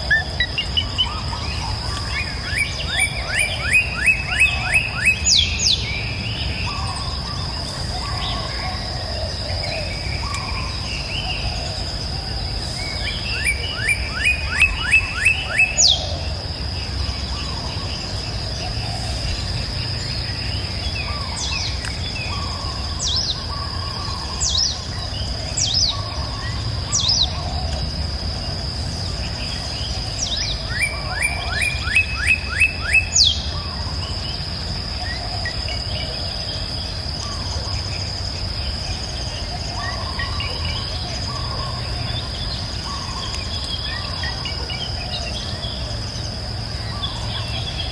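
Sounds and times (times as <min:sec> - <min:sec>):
birds singing: 0:00.0 - 0:47.9
high insect drone: 0:00.0 - 0:47.9.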